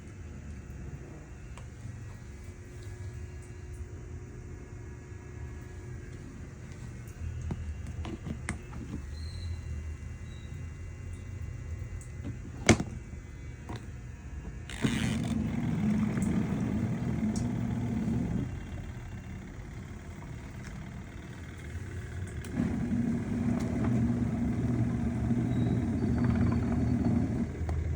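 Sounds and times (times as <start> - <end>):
washing machine motor humming: 0.0 - 27.9.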